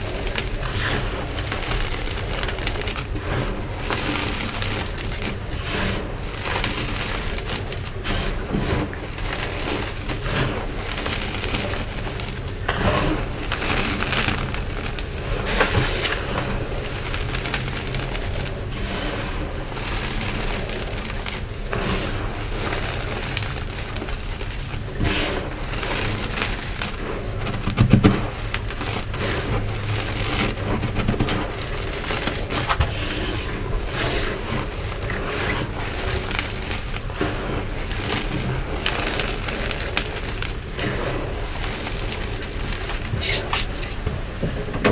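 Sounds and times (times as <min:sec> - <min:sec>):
powder clumps crunching: 0:00.0 - 0:44.9.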